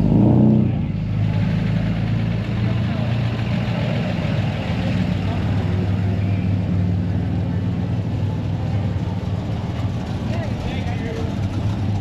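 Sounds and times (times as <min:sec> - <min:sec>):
car engine idling: 0:00.7 - 0:12.0.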